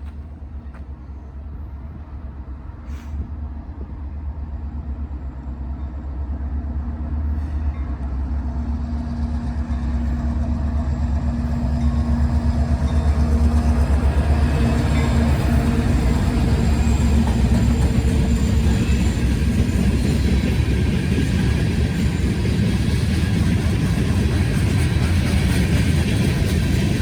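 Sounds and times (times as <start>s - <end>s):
locomotive engine rumble: 0.0s - 27.0s.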